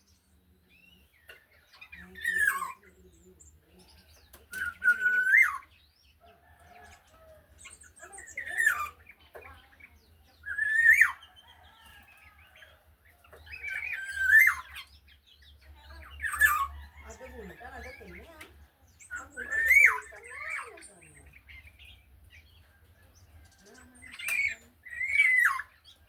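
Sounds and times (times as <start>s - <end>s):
bird fluty whistled song: 0.0s - 26.0s.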